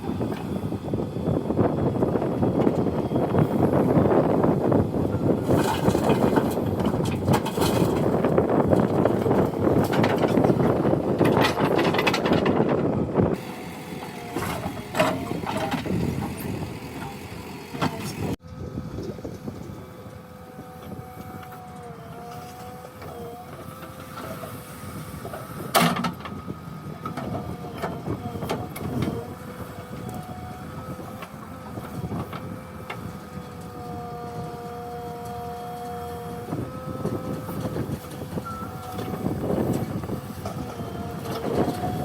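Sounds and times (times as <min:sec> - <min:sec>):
diesel engine and hydraulics whine: 0:00.0 - 0:42.0.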